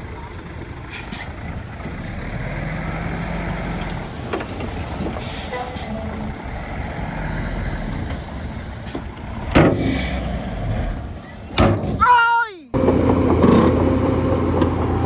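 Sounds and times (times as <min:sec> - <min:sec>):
diesel machinery rumbling: 0:00.0 - 0:12.1, 0:12.7 - 0:15.0.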